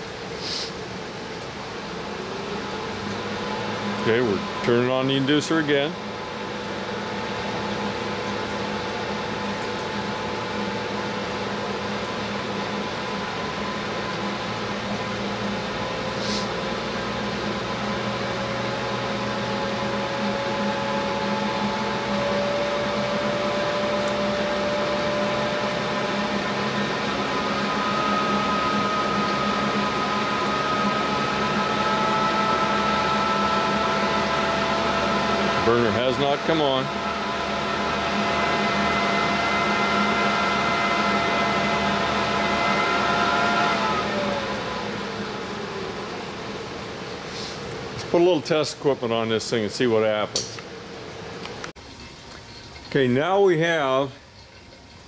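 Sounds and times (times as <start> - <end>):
furnace blower whirring: 0.0 - 51.8.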